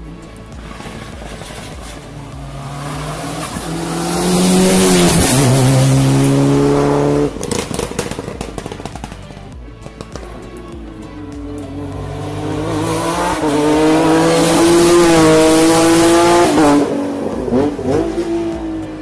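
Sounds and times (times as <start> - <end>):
rally car engine accelerating: 0.6 - 9.3, 10.8 - 19.0.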